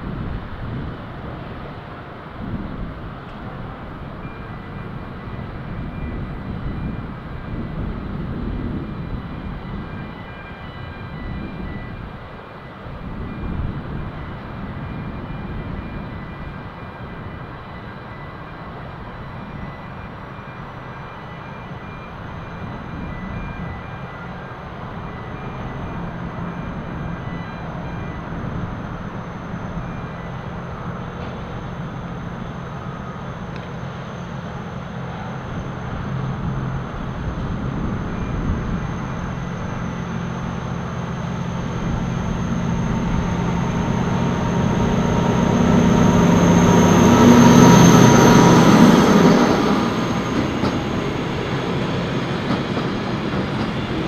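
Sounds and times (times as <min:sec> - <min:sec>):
freight train rumble: 0:00.0 - 0:54.0.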